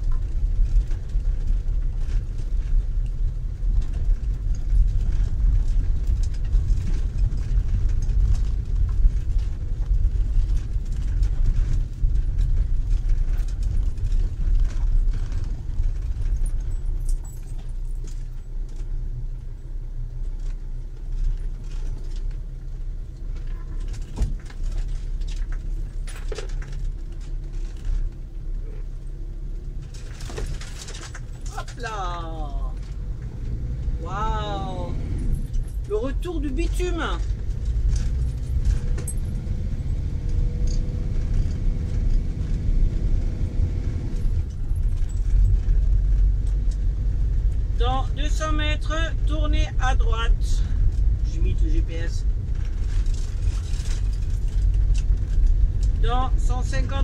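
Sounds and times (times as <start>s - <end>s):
vehicle rumbling on rough road: 0.0s - 57.0s.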